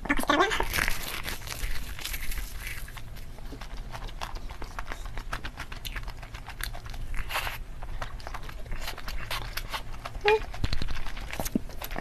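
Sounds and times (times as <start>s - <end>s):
wet chewing: 0.2s - 12.0s.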